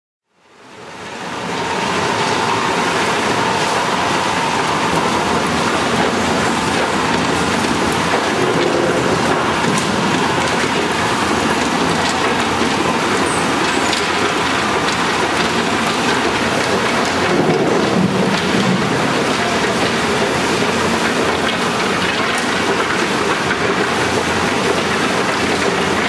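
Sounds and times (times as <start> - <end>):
train wheels rattling and rumbling: 0.7 - 26.0.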